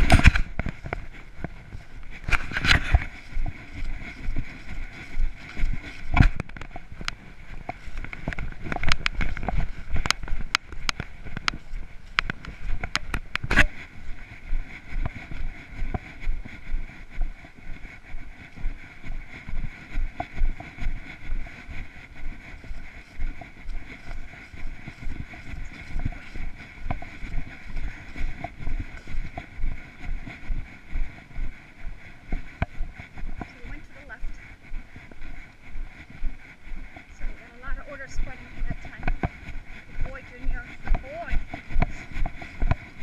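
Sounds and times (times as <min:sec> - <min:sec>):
camera rubbing and rumbling: 0:00.0 - 0:43.0
footsteps walking: 0:00.0 - 0:43.0.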